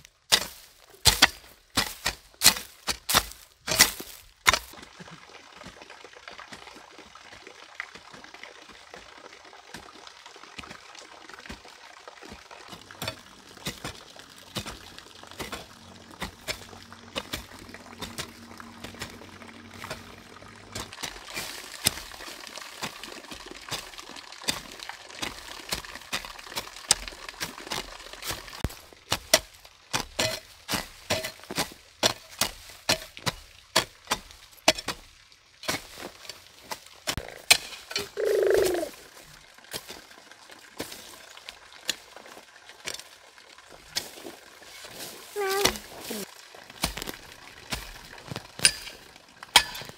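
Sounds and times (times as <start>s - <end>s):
water pouring and trickling: 0.0s - 49.9s.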